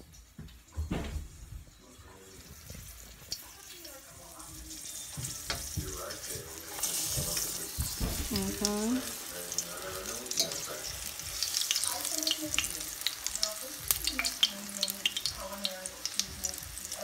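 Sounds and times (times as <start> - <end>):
oil sizzling while deep-frying: 1.4 - 17.0.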